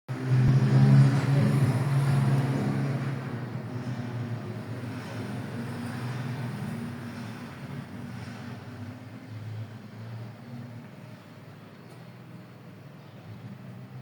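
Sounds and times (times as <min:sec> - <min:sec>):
car engine humming: 0:00.1 - 0:12.7.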